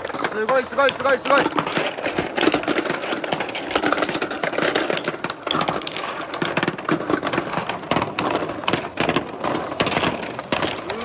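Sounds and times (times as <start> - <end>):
plastic balls clattering: 0.0 - 11.0.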